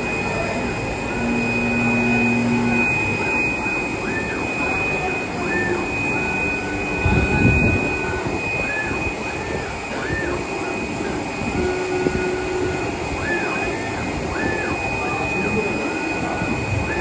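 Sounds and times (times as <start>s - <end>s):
constant high tone: 0.0s - 17.0s
cutting machine mechanical noise: 0.0s - 17.0s
motor whines: 0.0s - 17.0s.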